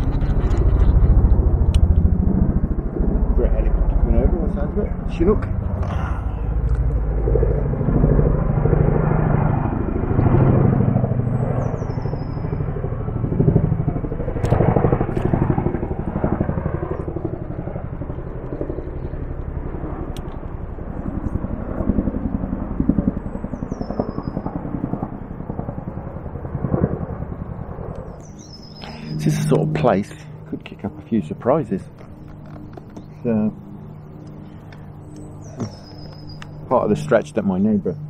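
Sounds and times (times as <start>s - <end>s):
helicopter rotors thudding: 0.0s - 38.0s.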